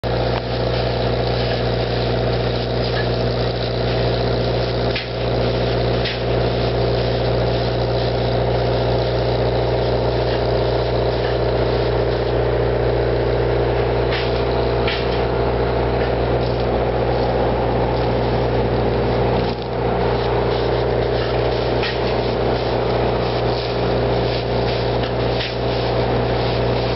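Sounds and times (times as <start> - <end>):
engine idling: 0.0 - 26.9.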